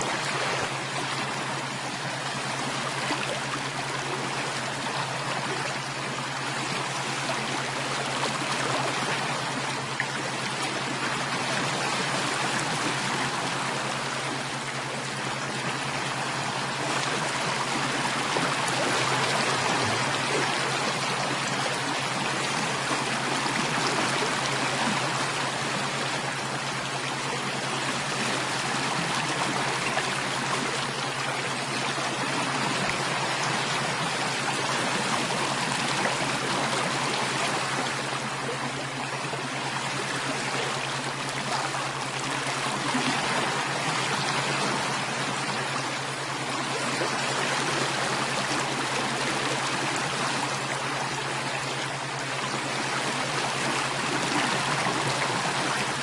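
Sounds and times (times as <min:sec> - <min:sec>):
low steady hum: 0:00.0 - 0:56.0
stream water babbling: 0:00.0 - 0:56.0.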